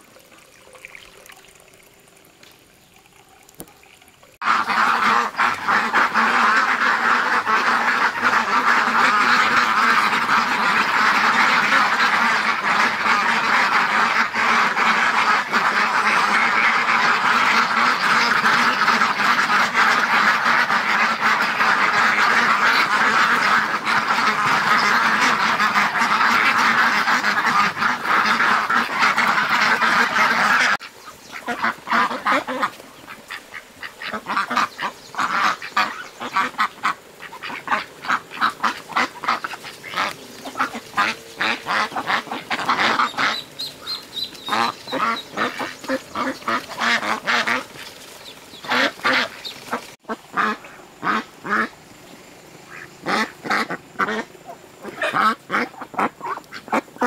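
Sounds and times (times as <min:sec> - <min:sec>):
ducks quacking: 0:04.4 - 0:51.8, 0:52.7 - 0:57.0.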